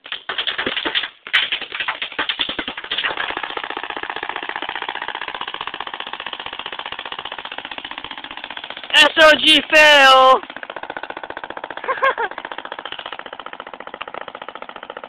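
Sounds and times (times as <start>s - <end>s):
paintball marker rapid firing: 0.0s - 15.0s.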